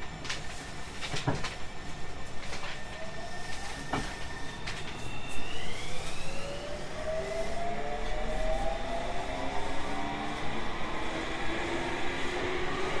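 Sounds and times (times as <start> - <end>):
electric train motor whine: 2.1 - 13.0.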